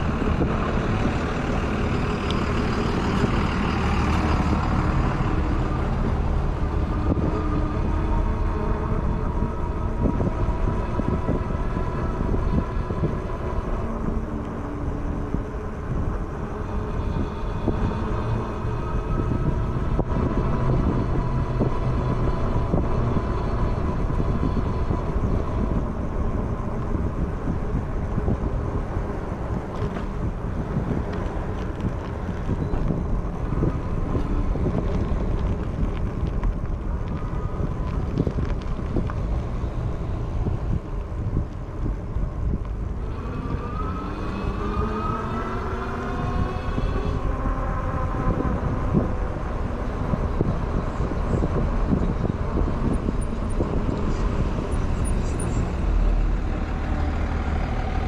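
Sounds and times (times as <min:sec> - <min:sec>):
road traffic noise: 0:00.0 - 0:58.0
wind rumbling on microphone: 0:00.0 - 0:58.0.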